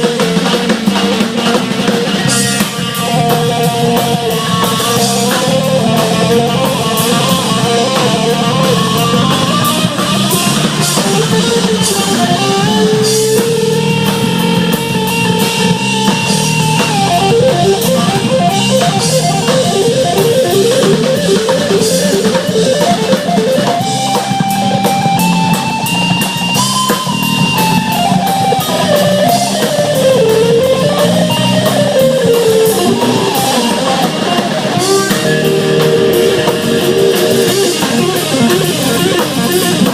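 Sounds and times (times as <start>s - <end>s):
rock band lead melody: 0.0s - 39.9s
steady drum beat: 0.0s - 39.9s.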